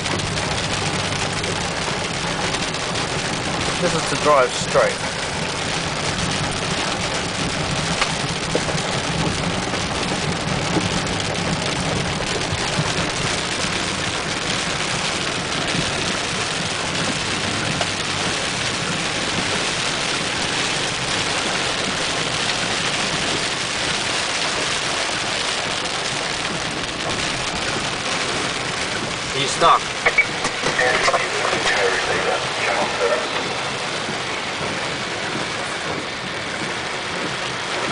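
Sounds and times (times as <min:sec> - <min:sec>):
low engine hum: 0:00.0 - 0:37.9
tyres on wet dirt road: 0:00.0 - 0:37.9.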